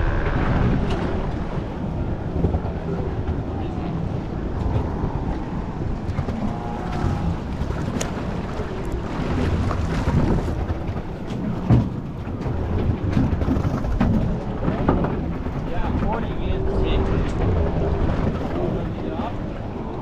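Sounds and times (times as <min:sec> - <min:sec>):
water sloshing against hull: 0:00.0 - 0:20.0
wind buffeting microphone: 0:00.0 - 0:20.0.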